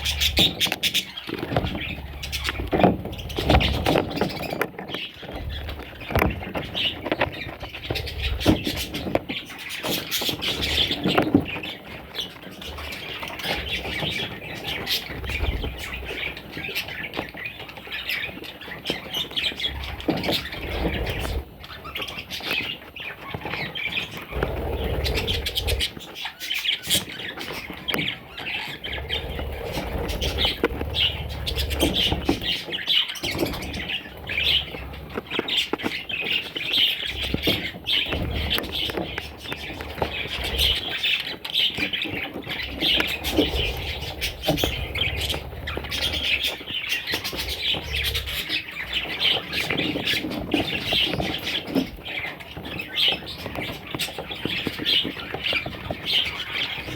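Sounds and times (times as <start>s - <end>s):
budgerigars chattering and squawking: 0.0s - 56.9s.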